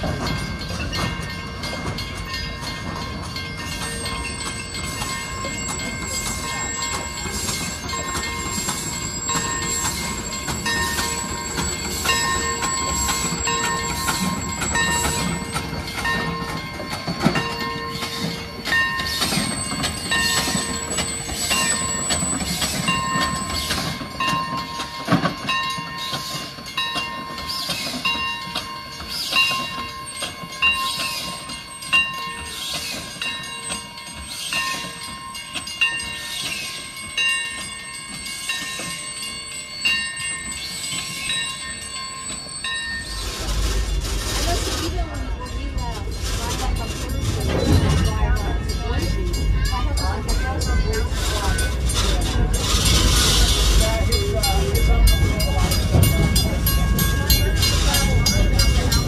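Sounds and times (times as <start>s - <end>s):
crossing signal bell ringing: 0.0s - 59.0s
steam train rolling: 0.0s - 59.0s.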